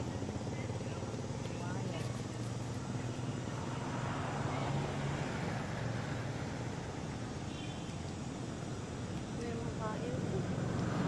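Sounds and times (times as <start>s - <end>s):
distant traffic hum: 0.0s - 11.0s.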